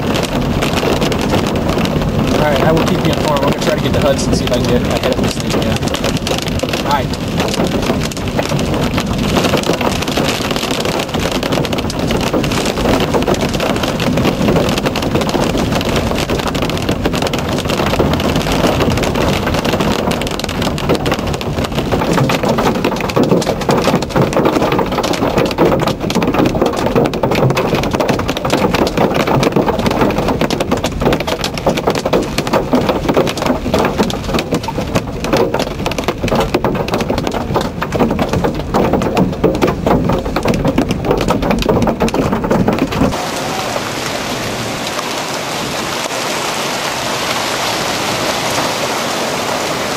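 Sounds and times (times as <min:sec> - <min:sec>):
rain and hail on car roof: 0:00.0 - 0:49.9.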